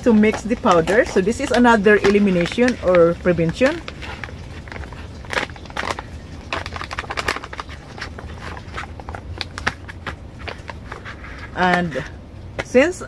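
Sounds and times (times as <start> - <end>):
paper pouch crinkling: 0.0 - 12.1
steady low hum: 0.0 - 13.0.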